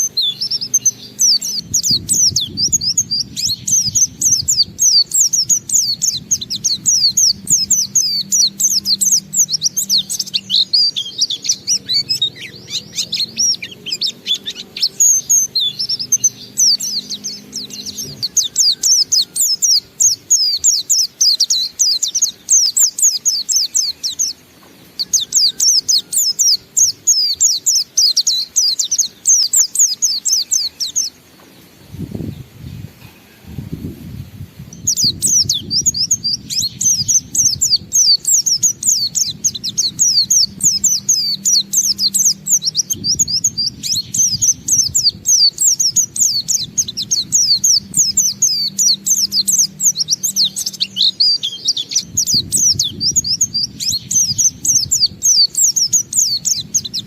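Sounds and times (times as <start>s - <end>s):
bird singing rapid chirps and trills: 0.0s - 32.7s, 33.4s - 57.0s.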